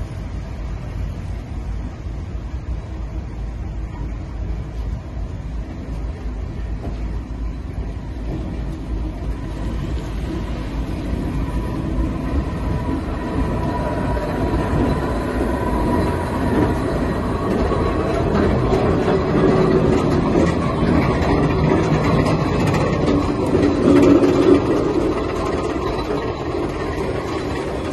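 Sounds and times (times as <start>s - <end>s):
diesel locomotive engine rumble: 0.0s - 27.9s
rolling rail noise: 0.0s - 27.9s.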